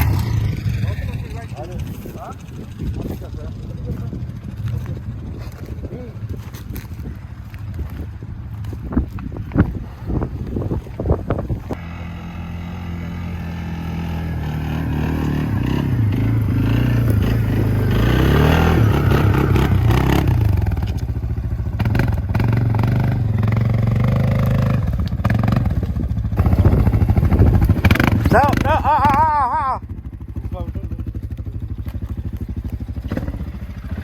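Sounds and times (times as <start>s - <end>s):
atv engine revving: 0.0s - 34.0s.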